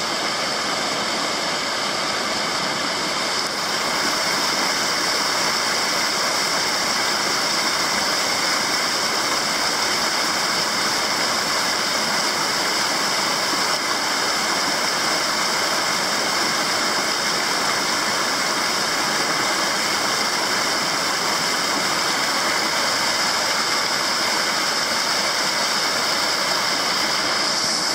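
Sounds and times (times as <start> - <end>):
steady rushing water: 0.0 - 27.9.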